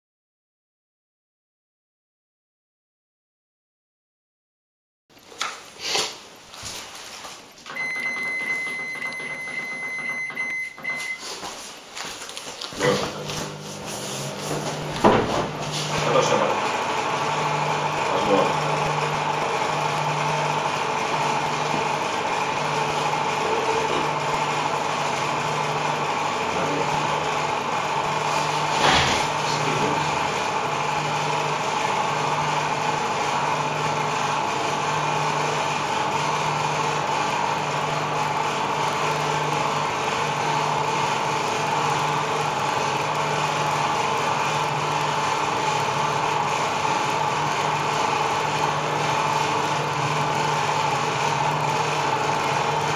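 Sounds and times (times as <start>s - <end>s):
microwave oven humming: 7.6s - 11.6s, 12.8s - 52.9s.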